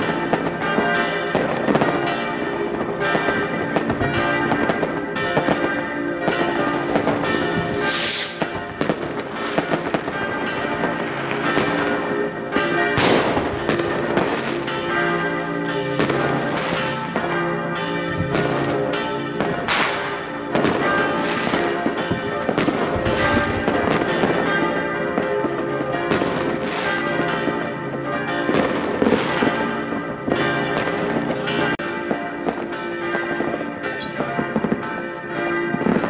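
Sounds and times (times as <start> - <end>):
fireworks bangs and crackles: 0.0 - 17.4, 18.1 - 35.0, 35.7 - 36.0
church bells ringing: 0.0 - 36.0.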